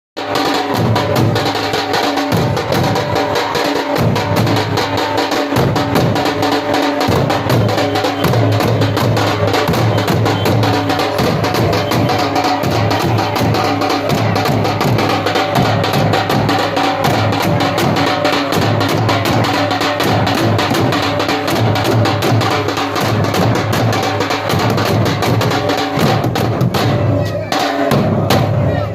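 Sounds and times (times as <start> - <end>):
drums playing fast strokes: 0.2 - 28.9.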